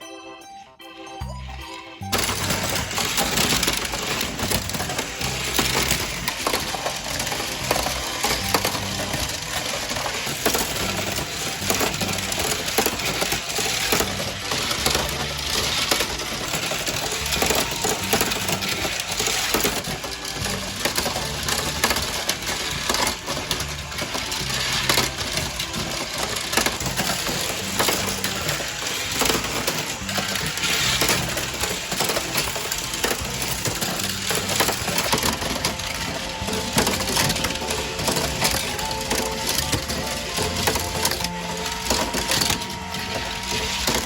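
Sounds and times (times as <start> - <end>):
toy wheels clattering on plastic track: 2.1 - 44.0.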